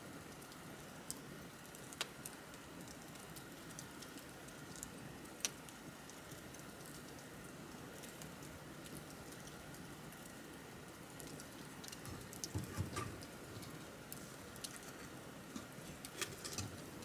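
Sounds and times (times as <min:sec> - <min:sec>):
wood fire crackling: 0:00.3 - 0:17.0.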